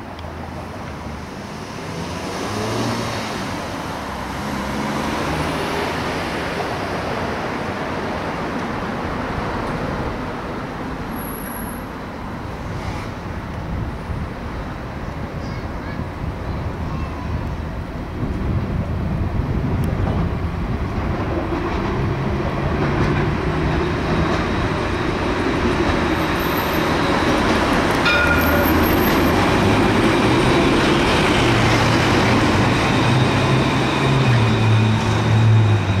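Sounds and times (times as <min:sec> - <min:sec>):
tram rolling on track: 0:00.0 - 0:36.0.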